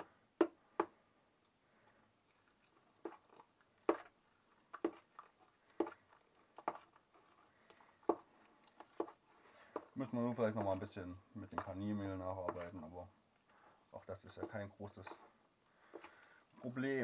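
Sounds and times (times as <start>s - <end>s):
soft squelching of mixture: 0.0s - 17.0s.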